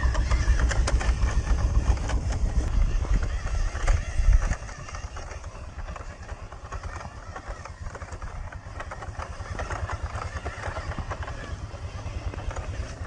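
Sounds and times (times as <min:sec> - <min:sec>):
rc truck electric motor running: 0:00.0 - 0:13.0
tyres crunching over dirt and stones: 0:00.0 - 0:13.0.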